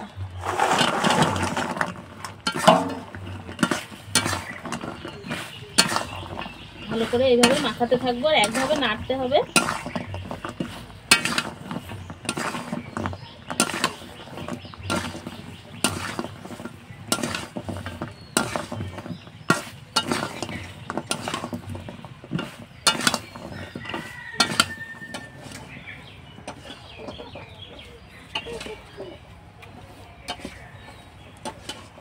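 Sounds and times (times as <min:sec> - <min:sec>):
metal spatula scraping metal pan: 0:00.0 - 0:29.2, 0:29.9 - 0:32.0.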